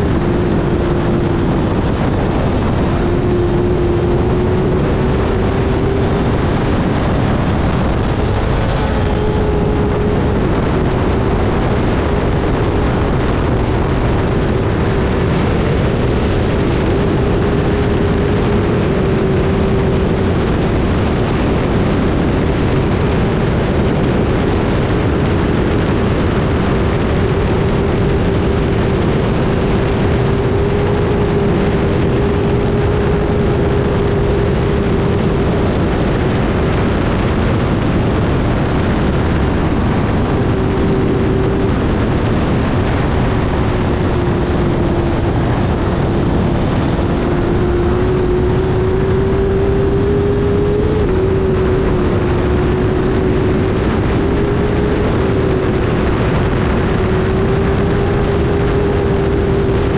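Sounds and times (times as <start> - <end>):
motorcycle engine at high revs: 0.0 - 59.9
wind noise: 0.0 - 59.9.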